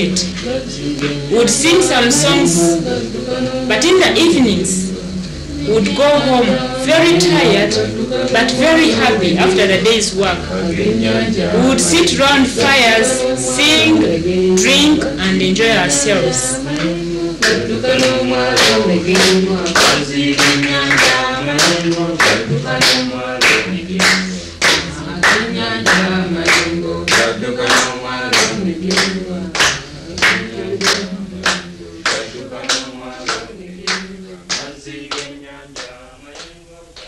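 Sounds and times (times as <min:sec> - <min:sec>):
group of voices singing: 0:00.0 - 0:37.0
rhythmic handclaps: 0:00.0 - 0:37.0.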